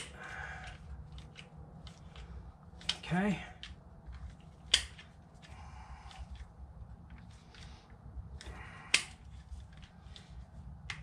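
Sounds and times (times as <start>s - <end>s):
small clicks and rustles: 0.0s - 11.0s.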